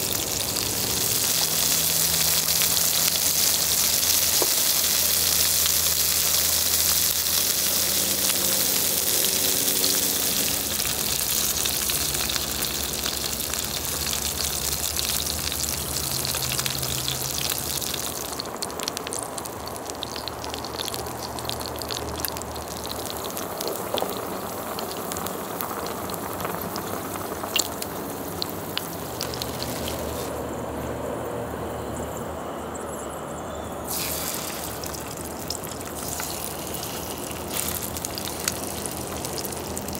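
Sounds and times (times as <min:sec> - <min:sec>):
food sizzling on grill plate: 0:00.0 - 0:30.4, 0:33.9 - 0:39.9
soup bubbling: 0:00.0 - 0:30.4, 0:33.9 - 0:39.9.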